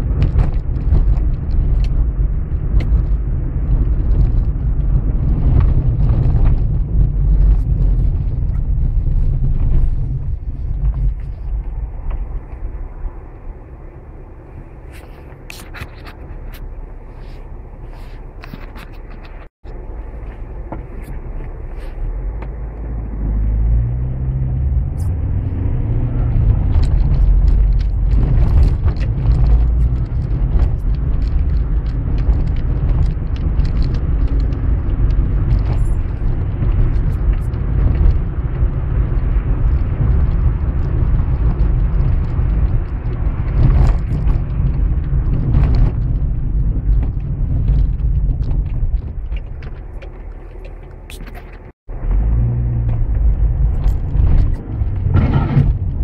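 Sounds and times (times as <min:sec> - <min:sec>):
car engine: 0:00.0 - 0:56.0
tyre rumble on wet street: 0:00.0 - 0:56.0.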